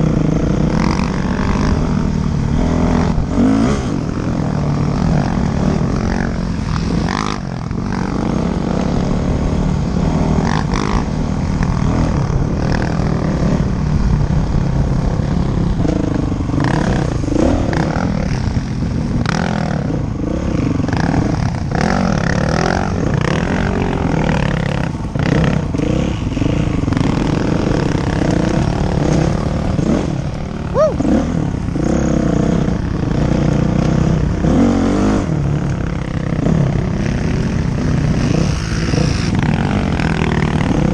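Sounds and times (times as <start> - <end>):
dirt bike engine revving: 0.0 - 13.8, 14.6 - 40.9.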